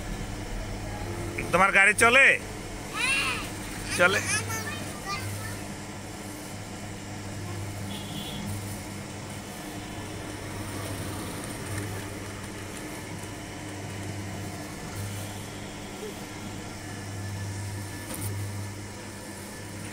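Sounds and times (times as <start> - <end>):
kiddie ride motor humming: 0.0 - 19.9.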